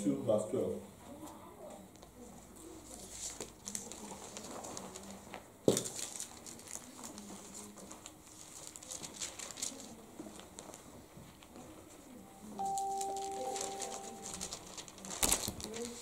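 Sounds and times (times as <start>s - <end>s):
faint page rustling: 2.0s - 16.0s.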